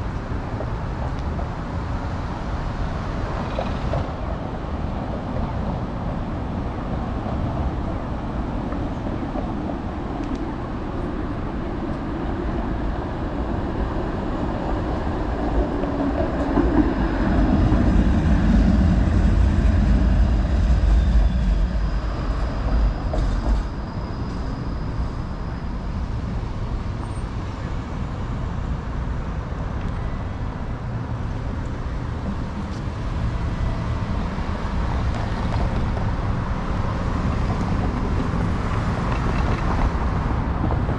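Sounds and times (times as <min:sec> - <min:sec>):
street traffic: 0:00.0 - 0:40.9
streetcar rumbling past: 0:00.0 - 0:40.9.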